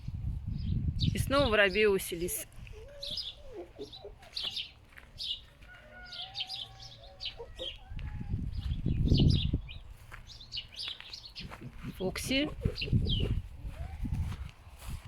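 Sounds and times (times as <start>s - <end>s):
small birds chirping: 0.6s - 14.1s.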